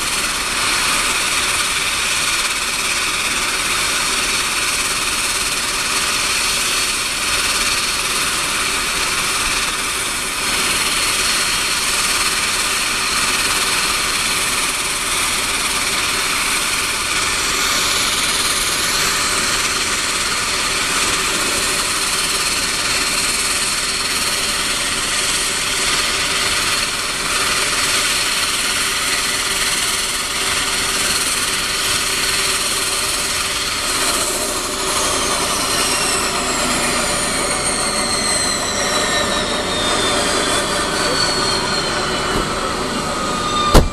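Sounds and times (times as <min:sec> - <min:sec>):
propeller rush: 0:00.0 - 0:43.9
turboprop engines idling: 0:00.0 - 0:43.9.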